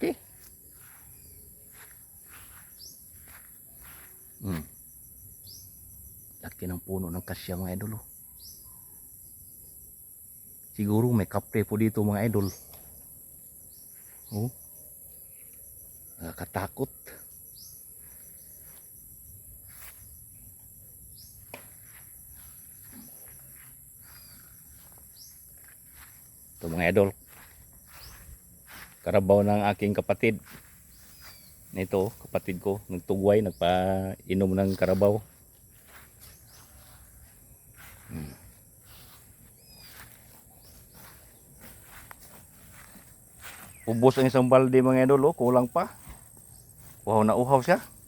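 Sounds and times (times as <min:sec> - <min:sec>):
crickets pulsing chirp: 0:00.0 - 0:48.0
insects droning: 0:00.0 - 0:48.0.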